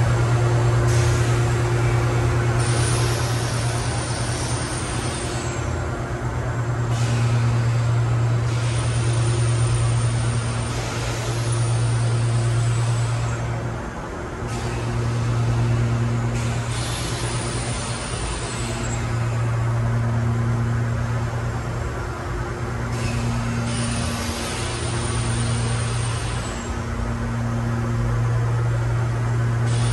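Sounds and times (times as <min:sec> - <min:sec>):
machinery low drone: 0:00.0 - 0:29.9.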